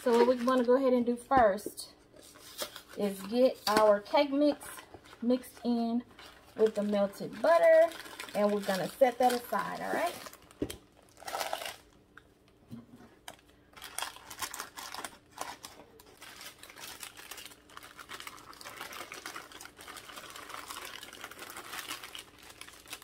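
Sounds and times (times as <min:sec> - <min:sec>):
plastic bag rustling: 0:00.0 - 0:01.0, 0:02.2 - 0:11.9, 0:13.3 - 0:23.0.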